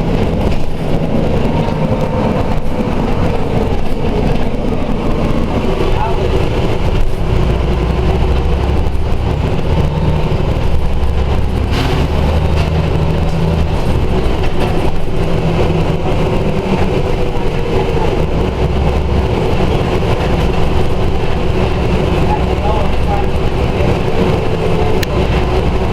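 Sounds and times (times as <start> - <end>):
bus diesel engine: 0.0 - 25.9.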